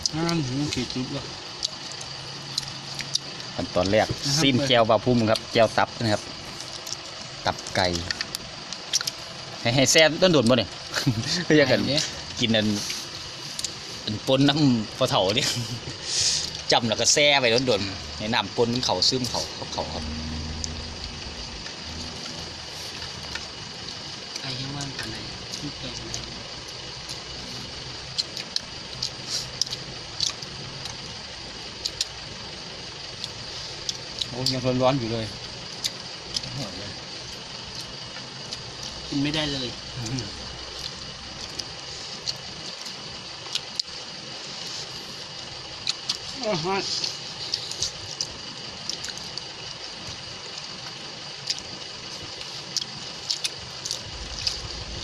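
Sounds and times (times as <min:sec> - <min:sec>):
people eating and chewing: 0:00.0 - 0:55.0.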